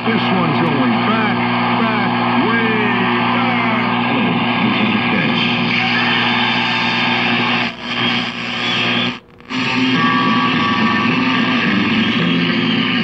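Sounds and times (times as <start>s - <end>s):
rock music through radio speaker: 0.0s - 13.0s.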